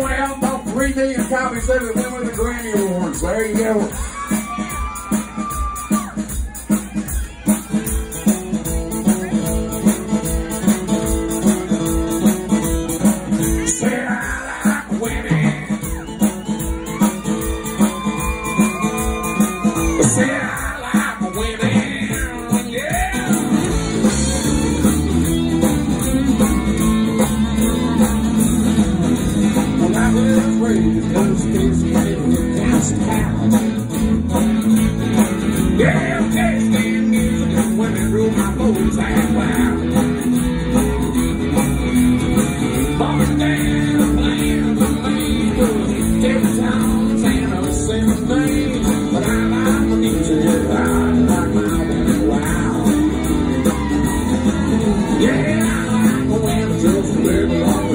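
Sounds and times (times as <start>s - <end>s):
live country band playing: 0.0s - 57.9s
strummed acoustic guitar: 0.0s - 57.9s.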